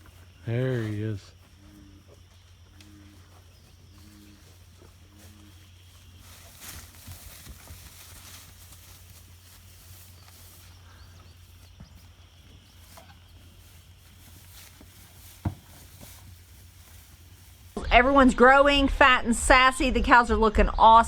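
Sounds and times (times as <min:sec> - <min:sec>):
cattle rustling and moving: 0:00.0 - 0:18.6.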